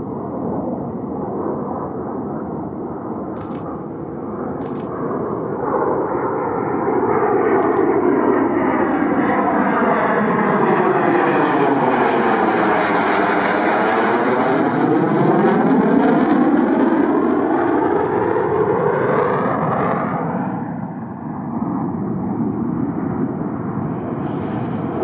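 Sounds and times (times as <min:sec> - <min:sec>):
jet flying low overhead: 0:00.0 - 0:25.0.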